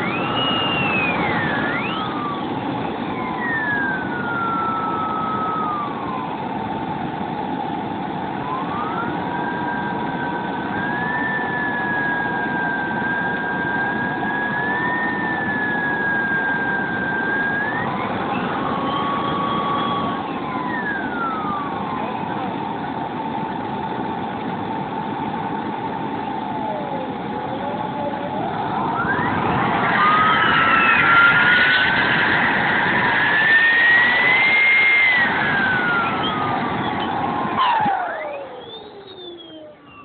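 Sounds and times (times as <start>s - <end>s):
jet turbine engines whining: 0.0s - 40.0s.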